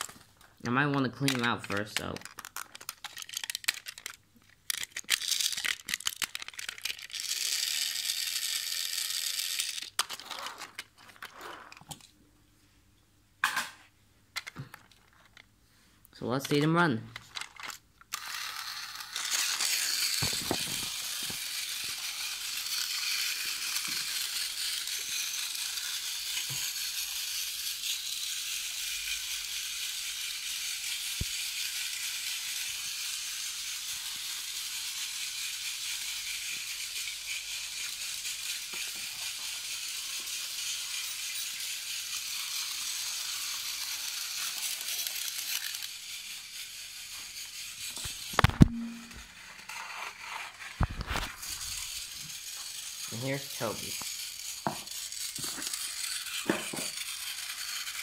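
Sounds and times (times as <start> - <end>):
toy train motors whirring: 0.0 - 12.1, 14.4 - 15.5, 16.3 - 58.0.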